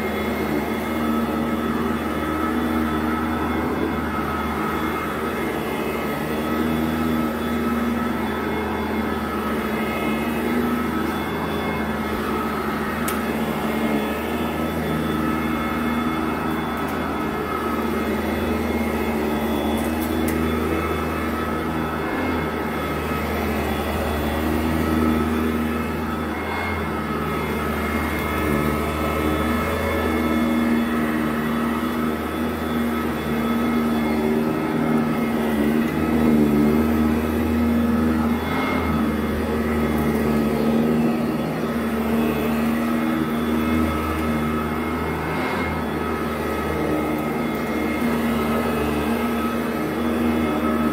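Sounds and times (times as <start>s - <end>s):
upright vacuum running on carpet: 0.0s - 50.9s.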